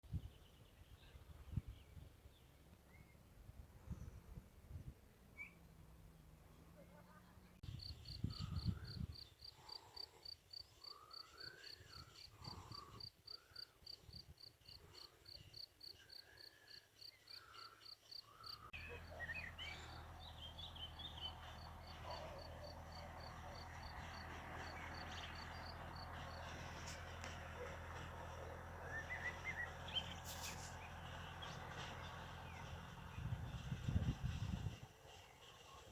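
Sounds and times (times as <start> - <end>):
birdsong: 5.3 - 35.9.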